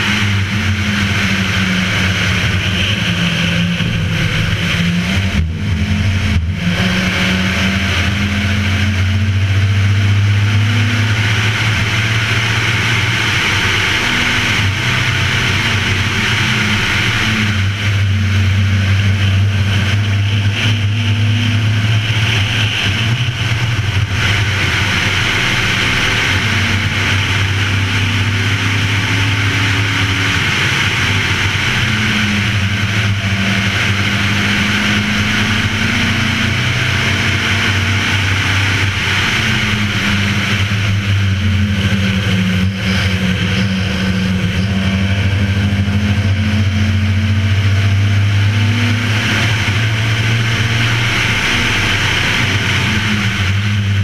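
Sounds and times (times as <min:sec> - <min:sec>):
race car engine at speed: 0:00.0 - 0:54.0.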